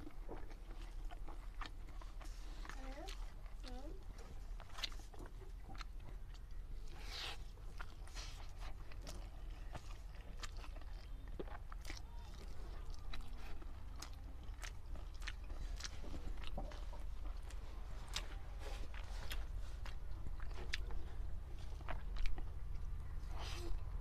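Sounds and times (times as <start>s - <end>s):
person chewing food: 0.0s - 24.0s
steady low hum: 0.0s - 24.0s.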